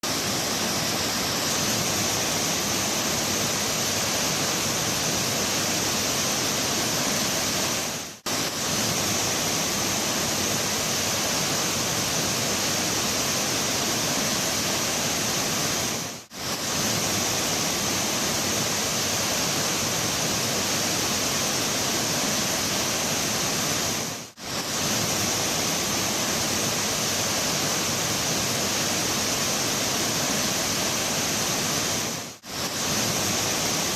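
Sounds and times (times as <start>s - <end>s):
mountain river rushing: 0.0s - 33.9s.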